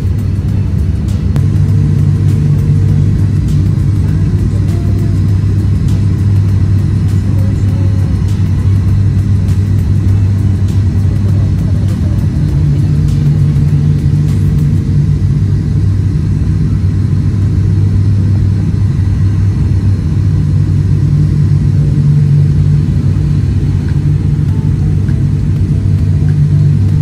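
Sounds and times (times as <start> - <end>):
turboprop engines droning in cabin: 0.0 - 27.0.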